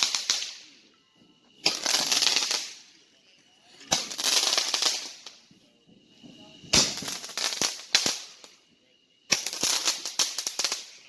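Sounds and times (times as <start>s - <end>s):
fireworks bursts with crackling hiss: 0.0s - 0.9s, 1.6s - 3.1s, 3.8s - 11.0s.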